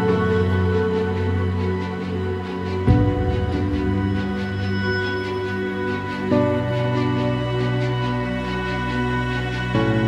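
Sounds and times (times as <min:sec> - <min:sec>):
background music of held chords: 0:00.0 - 0:10.0.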